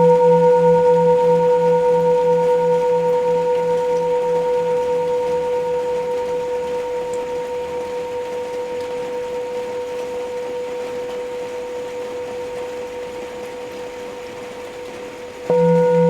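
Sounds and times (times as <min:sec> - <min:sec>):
rain hiss: 0:00.0 - 0:16.0
singing bowl ringing: 0:00.0 - 0:16.0.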